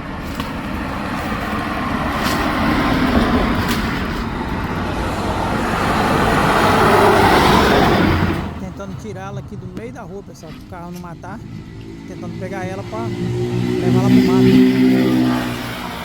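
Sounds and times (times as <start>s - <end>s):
vehicle passing close by: 0.0s - 16.0s.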